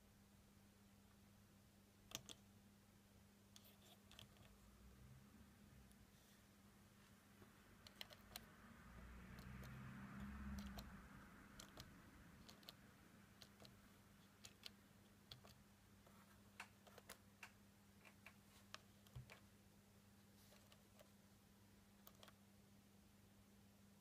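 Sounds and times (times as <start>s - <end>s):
faint hiss and rumble: 0.0s - 24.0s
low steady hum: 0.0s - 24.0s.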